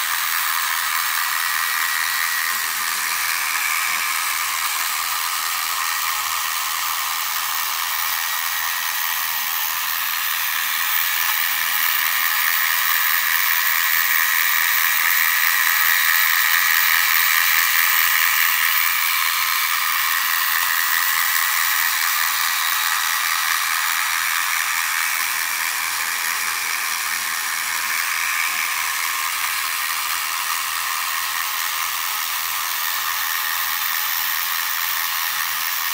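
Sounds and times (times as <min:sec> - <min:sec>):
small vacuum motor whirring: 0:00.0 - 0:35.9.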